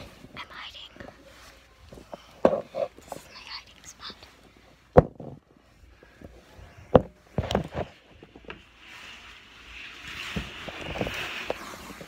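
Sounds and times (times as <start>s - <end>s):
rustling over the microphone: 0.0s - 12.0s.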